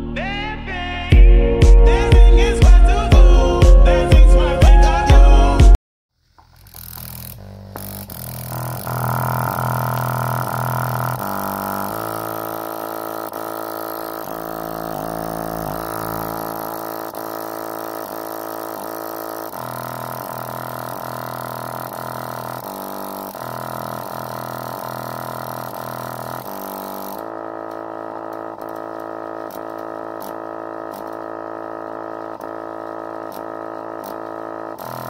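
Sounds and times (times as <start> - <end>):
subwoofer bass drone: 1.1 - 5.8, 6.4 - 35.0.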